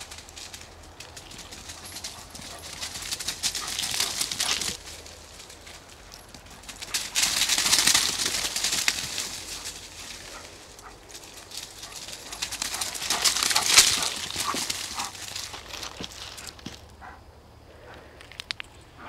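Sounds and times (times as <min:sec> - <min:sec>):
dry leaves crunching: 0:00.0 - 0:16.9.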